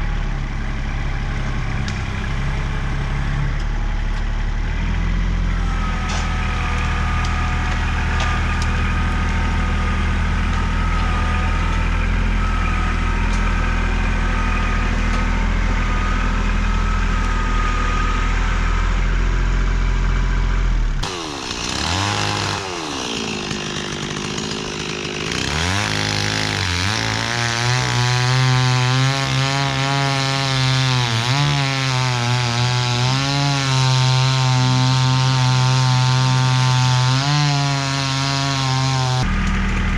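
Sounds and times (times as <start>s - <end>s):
chainsaw revving and cutting log: 0.0s - 39.9s
tractor engine rumbling: 0.0s - 39.9s.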